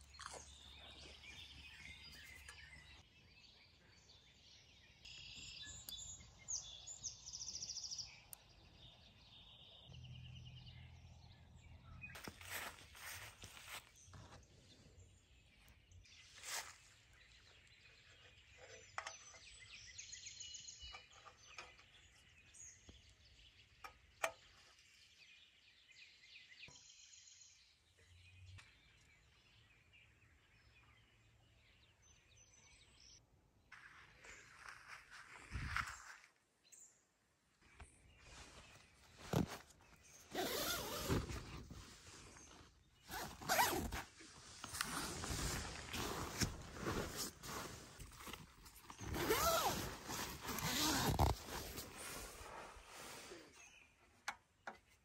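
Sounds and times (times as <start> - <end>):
birds chirping and trilling: 0.0 - 33.2, 37.6 - 55.0.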